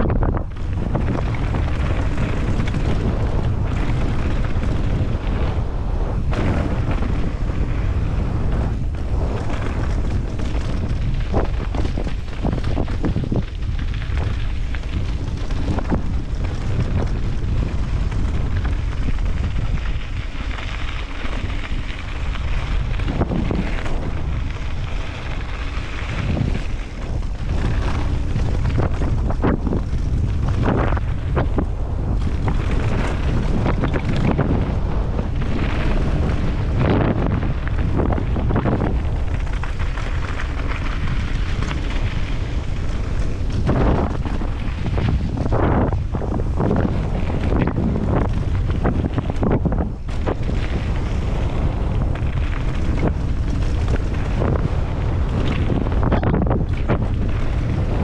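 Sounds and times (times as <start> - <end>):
bike rattling over bumps: 0.0 - 58.0
wind buffeting microphone: 0.0 - 58.0.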